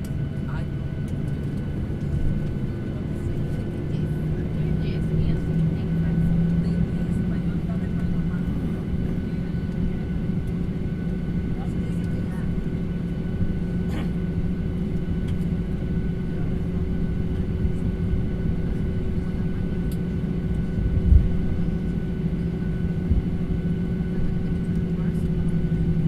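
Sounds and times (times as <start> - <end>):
jet engines humming: 0.0 - 26.0.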